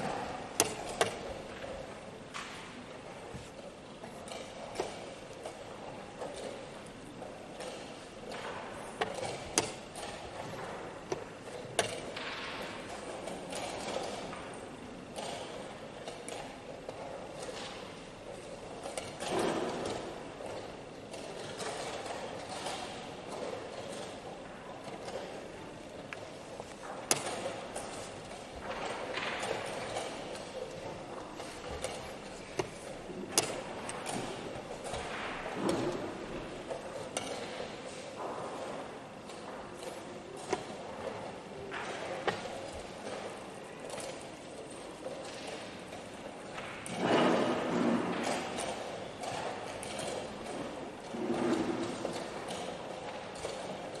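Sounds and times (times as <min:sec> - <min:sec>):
room background noise: 0:00.0 - 0:54.0.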